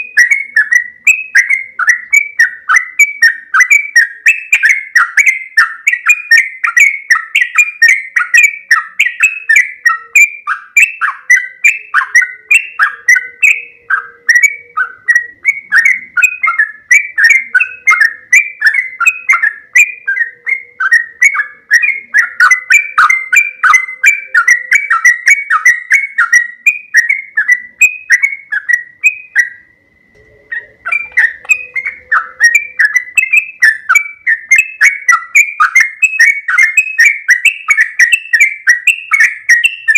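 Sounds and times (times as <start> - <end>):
bird singing rolling song: 0.0 - 39.9.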